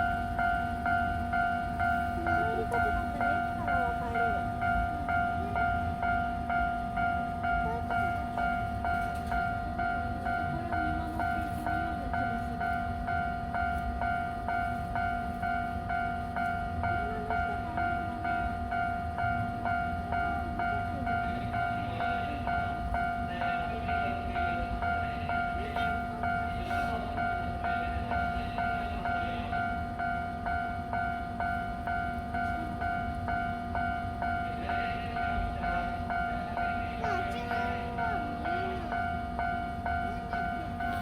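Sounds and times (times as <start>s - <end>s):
level crossing bell ringing: 0.0s - 41.0s
low train rumble: 0.0s - 41.0s.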